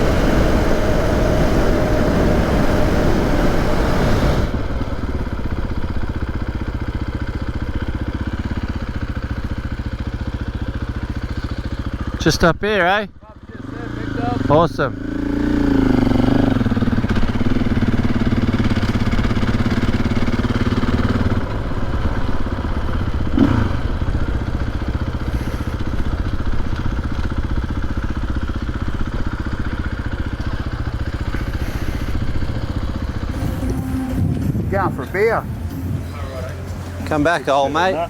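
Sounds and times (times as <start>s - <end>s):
dirt bike engine running: 0.0s - 38.0s.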